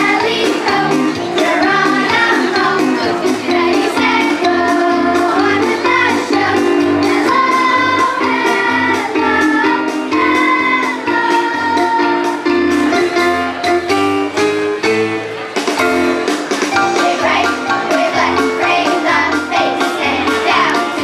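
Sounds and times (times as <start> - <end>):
children's chorus singing: 0.0 - 13.6, 16.8 - 21.0
instrumental accompaniment with beat: 0.0 - 21.0.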